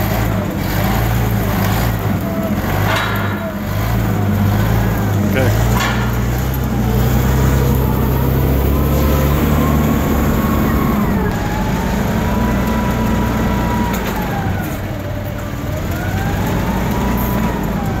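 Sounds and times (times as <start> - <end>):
forklift engine whining hum: 0.0 - 18.0.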